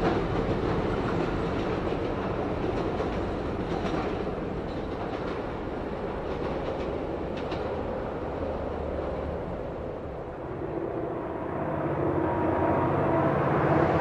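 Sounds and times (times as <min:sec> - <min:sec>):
diesel locomotive engine: 0:00.0 - 0:14.0.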